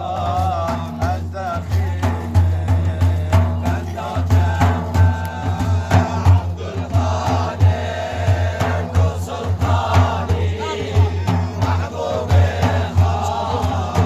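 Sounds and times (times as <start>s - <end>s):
low drum beating: 0.0s - 14.0s
voices chanting together: 0.0s - 14.0s.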